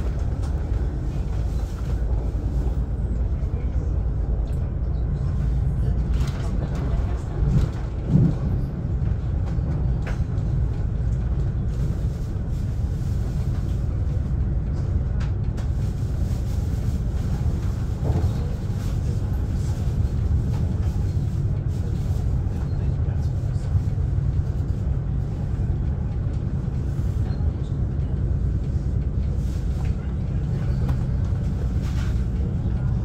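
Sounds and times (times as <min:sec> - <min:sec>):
train rumble inside carriage: 0:00.0 - 0:33.0.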